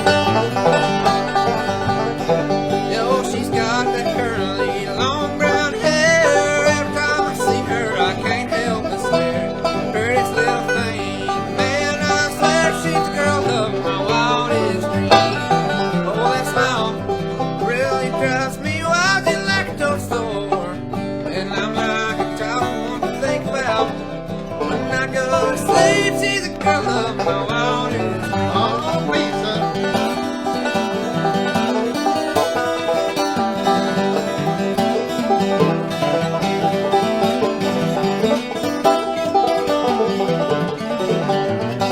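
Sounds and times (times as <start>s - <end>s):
acoustic guitar picking: 0.0s - 41.9s
banjo picking: 0.0s - 41.9s
bluegrass band playing: 0.0s - 41.9s.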